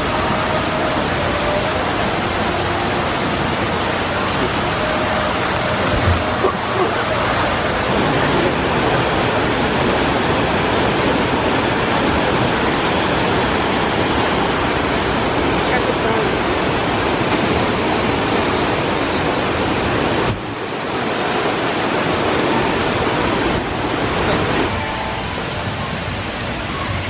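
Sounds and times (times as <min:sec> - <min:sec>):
water rushing down a slide: 0:00.0 - 0:27.0.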